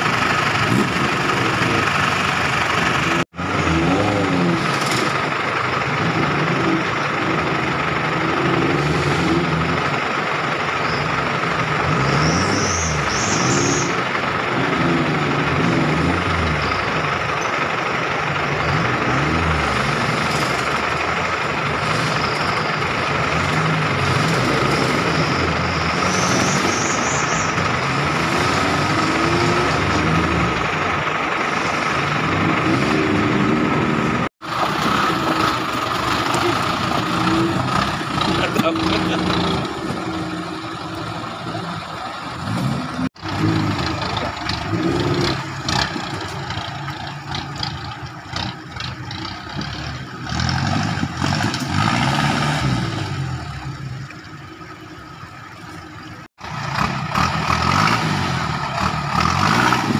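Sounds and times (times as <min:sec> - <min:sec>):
off-road engines idling and revving: 0:00.0 - 0:59.9.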